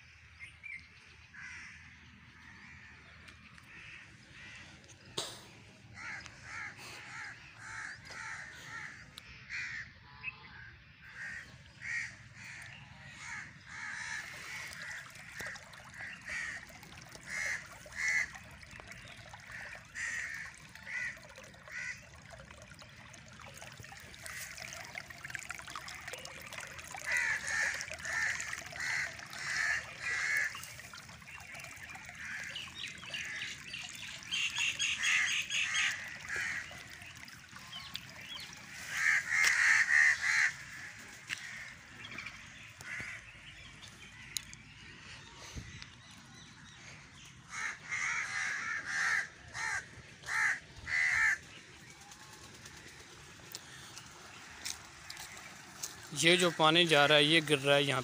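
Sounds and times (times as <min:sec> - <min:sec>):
birds calling: 0:00.0 - 0:58.0
water trickling: 0:00.8 - 0:09.3, 0:11.1 - 0:58.0.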